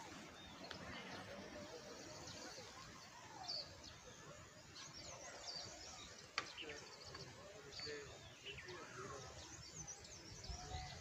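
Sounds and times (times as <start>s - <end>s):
faint birds chirping: 0.0s - 11.0s
soft outdoor background noise: 0.0s - 11.0s.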